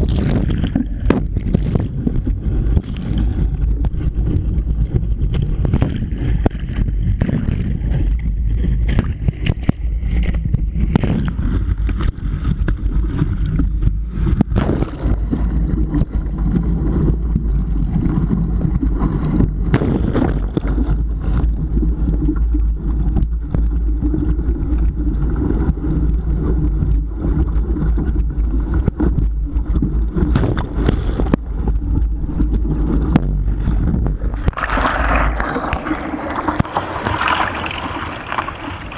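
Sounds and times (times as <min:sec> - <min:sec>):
crackles and knocks: 0:00.0 - 0:38.9
wind buffeting microphone: 0:00.0 - 0:38.9.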